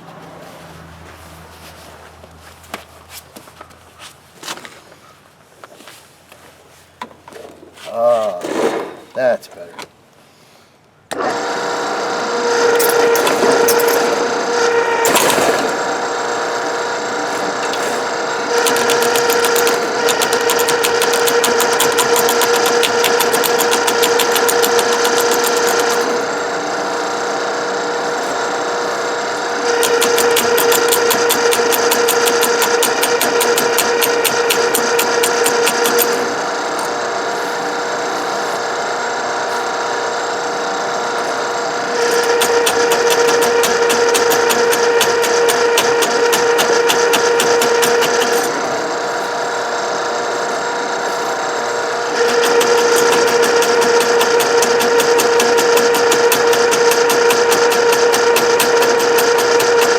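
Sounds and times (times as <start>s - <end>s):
drain machine motor hum: 11.1s - 59.9s.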